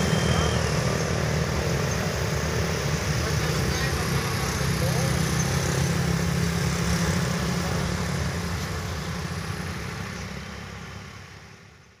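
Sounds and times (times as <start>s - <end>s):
truck engine: 0.0s - 11.9s
car engines: 0.0s - 12.0s
motorcycle engines: 0.0s - 12.0s.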